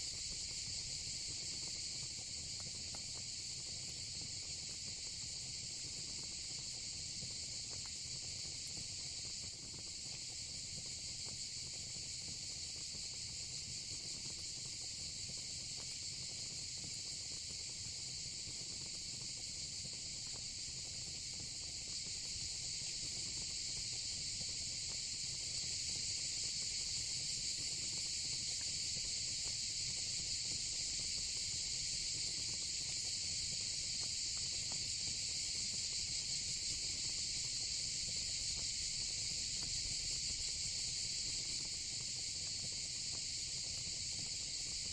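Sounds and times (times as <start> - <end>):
crickets and cicadas trilling: 0.0 - 44.9
faint fire crackles: 0.0 - 44.9.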